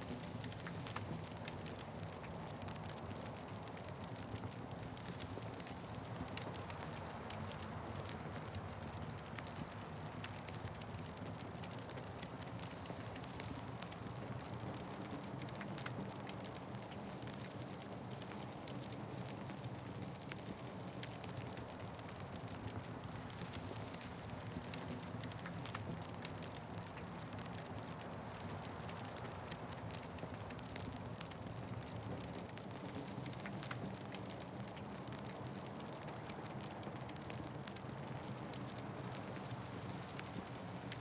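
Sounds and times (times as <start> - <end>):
fire crackling and popping: 0.1 - 41.0
low fire rumble: 0.1 - 41.0.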